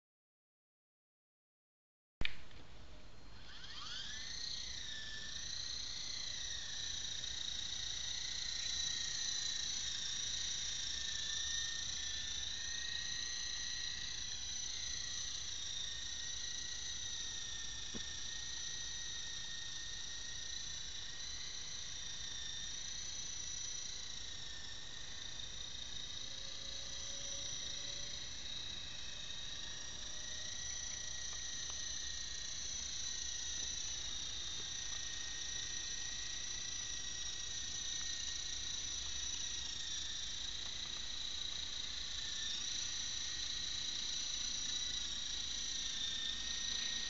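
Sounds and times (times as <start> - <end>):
toy helicopter motor whine: 3.3 - 47.0.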